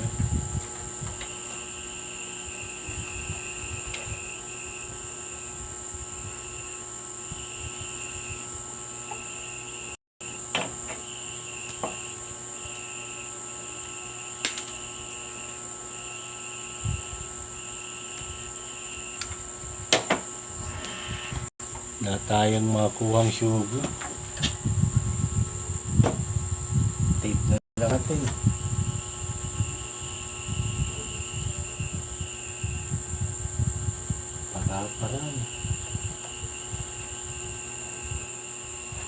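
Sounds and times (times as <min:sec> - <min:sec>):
insect chirping: 0:00.0 - 0:39.0
steady high whine: 0:00.0 - 0:39.0.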